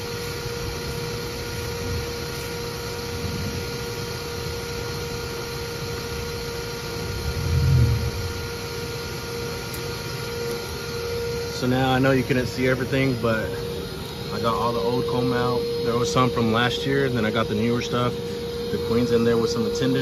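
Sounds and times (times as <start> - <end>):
vacuum motor humming: 0.0 - 20.0.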